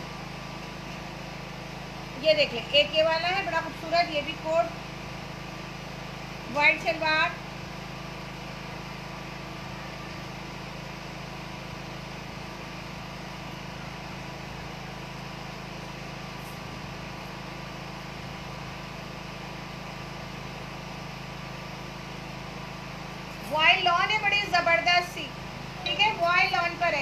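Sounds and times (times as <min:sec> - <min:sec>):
steady background hum with hiss: 0:00.0 - 0:27.0.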